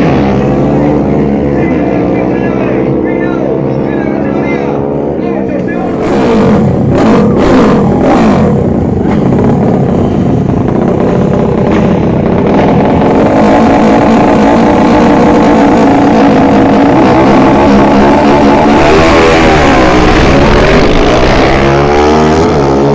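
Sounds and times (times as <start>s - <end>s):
motorcycle engine at high revs: 0.0s - 22.9s.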